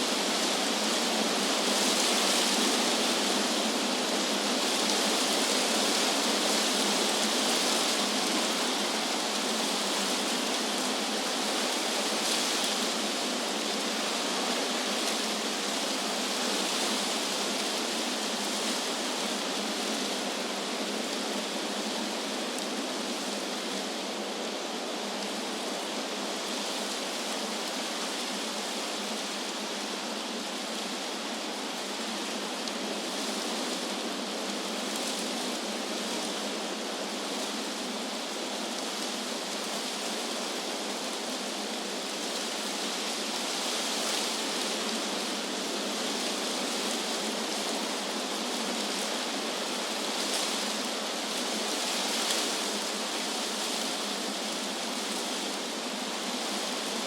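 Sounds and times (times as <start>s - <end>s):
wind rustling leaves: 0.0s - 57.0s.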